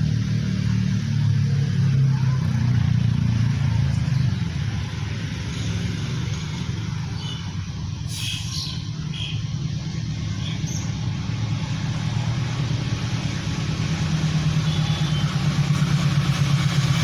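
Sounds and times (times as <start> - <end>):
locomotive engine droning: 0.0 - 17.0.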